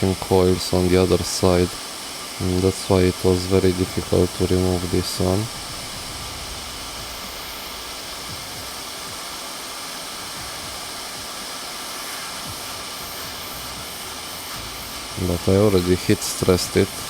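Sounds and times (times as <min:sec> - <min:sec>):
hot air station hissing: 0:00.0 - 0:17.0.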